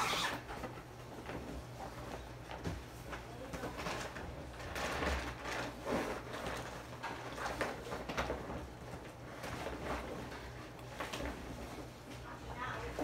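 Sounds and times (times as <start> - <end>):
rustling and scuffing objects: 0.0 - 13.0.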